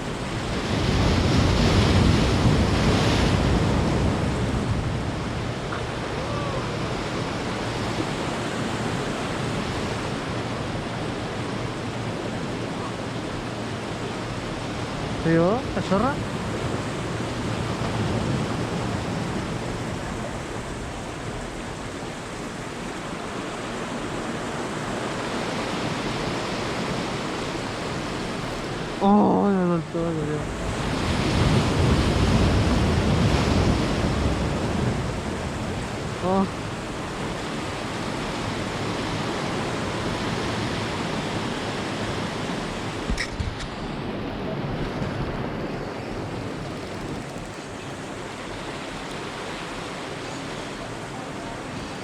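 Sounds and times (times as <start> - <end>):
ocean surf washing on shore: 0.0 - 52.0
wind: 0.0 - 52.0.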